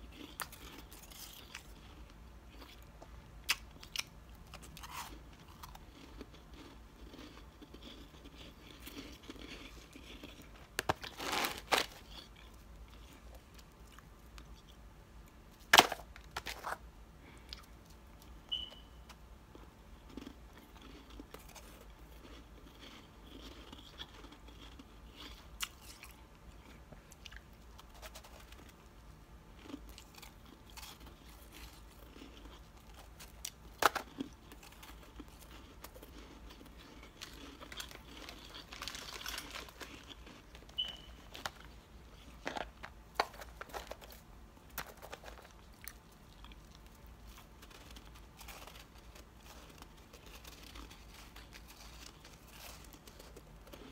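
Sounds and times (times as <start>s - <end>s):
chewing crunchy frost: 0.0s - 14.8s, 19.5s - 53.9s.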